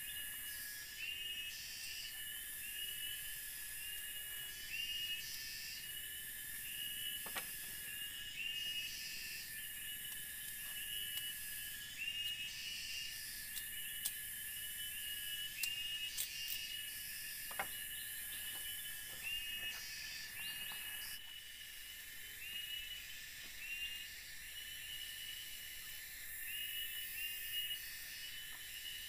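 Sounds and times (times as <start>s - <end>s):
insect high drone: 0.0s - 29.0s
pulsing high-pitched insect buzz: 0.0s - 29.0s.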